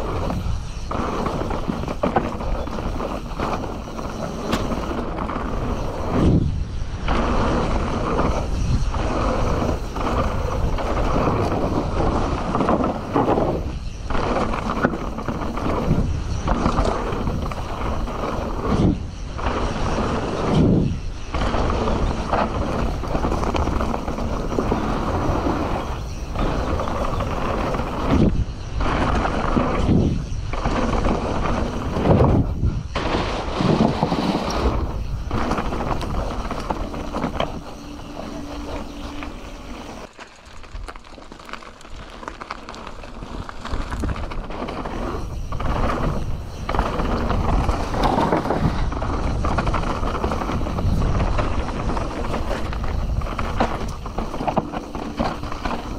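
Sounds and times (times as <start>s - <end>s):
bike tyres rattling on rough ground: 0.0s - 55.9s
wind noise on microphone: 0.0s - 55.9s.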